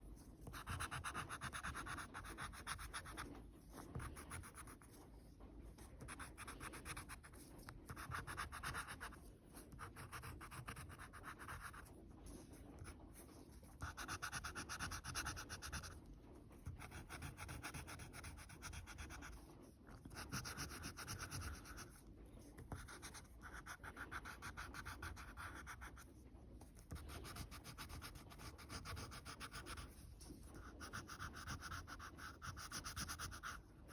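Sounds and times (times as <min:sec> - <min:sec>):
drawing tool scratching paper: 0:00.4 - 0:05.0, 0:05.8 - 0:11.9, 0:12.5 - 0:16.0, 0:16.6 - 0:19.4, 0:20.0 - 0:26.0, 0:26.8 - 0:33.7.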